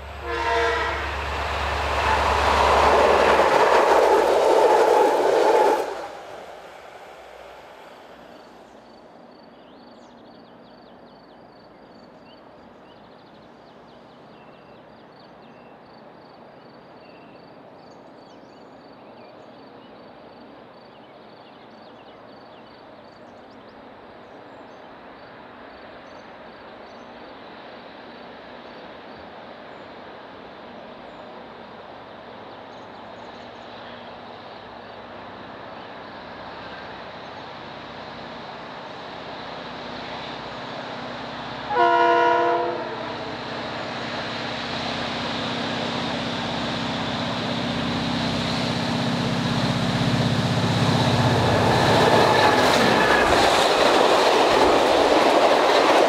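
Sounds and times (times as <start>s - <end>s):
distant diesel locomotive drone: 0.0s - 56.0s.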